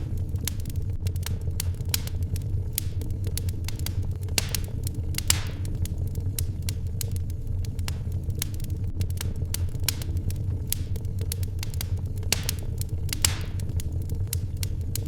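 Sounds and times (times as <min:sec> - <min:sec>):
low rumble: 0:00.0 - 0:15.0
wood fire crackling: 0:00.0 - 0:15.0.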